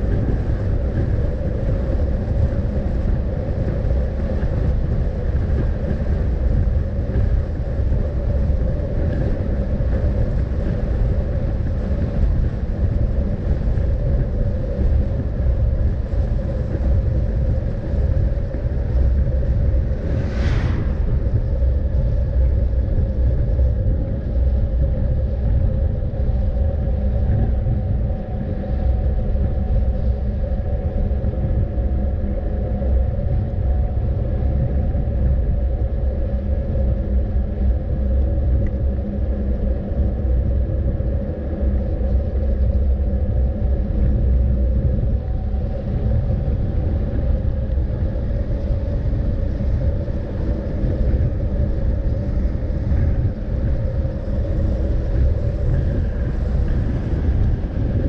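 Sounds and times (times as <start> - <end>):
deep continuous rumble: 0.0 - 58.0.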